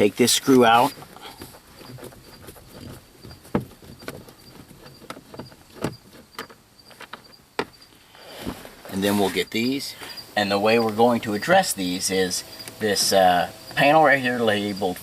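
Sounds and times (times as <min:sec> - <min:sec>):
faint high-pitched chirping: 0:00.0 - 0:15.0.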